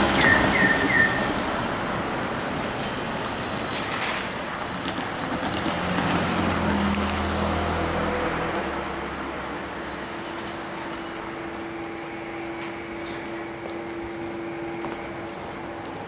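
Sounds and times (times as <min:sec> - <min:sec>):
steady traffic noise: 0:00.0 - 0:16.0
vehicle engine passing: 0:00.0 - 0:16.0.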